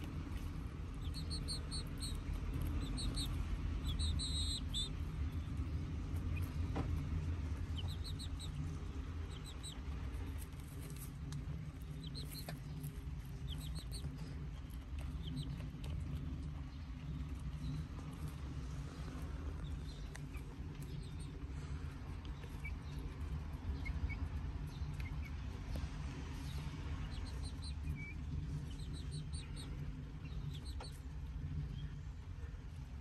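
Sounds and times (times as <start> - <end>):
chicks peeping: 0.0 - 33.0
low rumble: 0.0 - 33.0.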